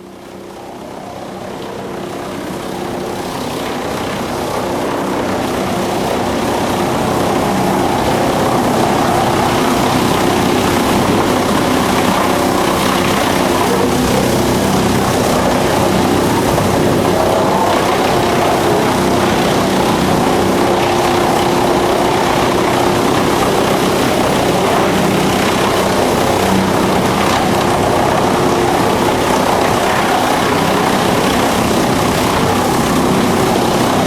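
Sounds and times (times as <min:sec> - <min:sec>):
wood chipper running: 0:03.7 - 0:34.0.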